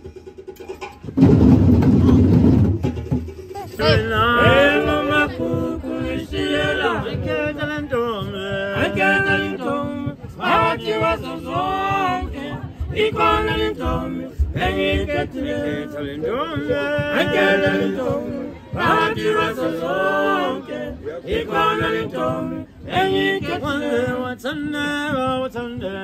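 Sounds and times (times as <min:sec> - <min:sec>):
men singing a cappella: 0:03.8 - 0:26.0.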